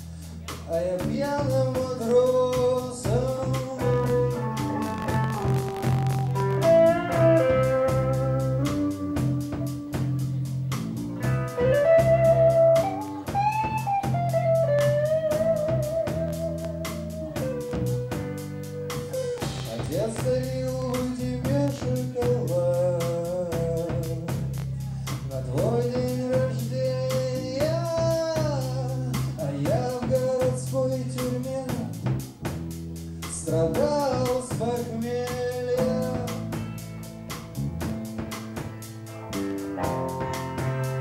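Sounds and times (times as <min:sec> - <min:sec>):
bass: 0:00.0 - 0:41.0
steady drum beat: 0:00.0 - 0:41.0
guitar melody: 0:01.5 - 0:31.7, 0:33.9 - 0:41.0.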